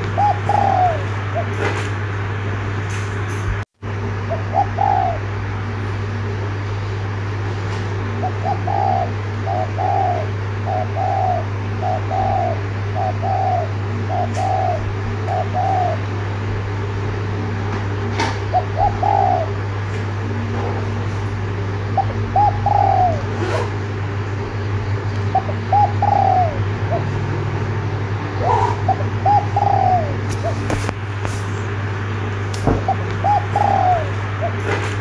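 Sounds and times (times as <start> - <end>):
dove cooing: 0.0 - 2.4, 4.2 - 6.5, 7.8 - 16.5, 17.5 - 31.0, 32.6 - 35.0
steady low hum: 0.0 - 35.0.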